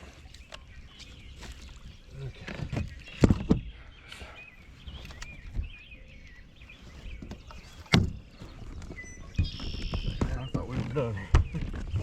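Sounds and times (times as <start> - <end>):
bird singing warbling song: 0.0 - 12.0.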